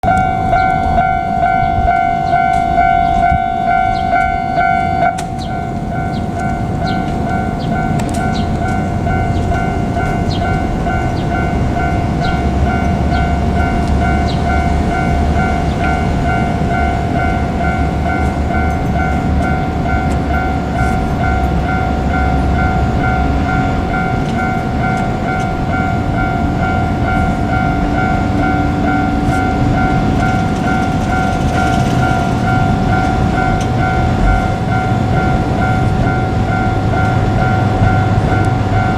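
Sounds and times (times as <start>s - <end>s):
level crossing warning bell: 0.0s - 38.9s
low rumbling noise: 0.0s - 38.9s.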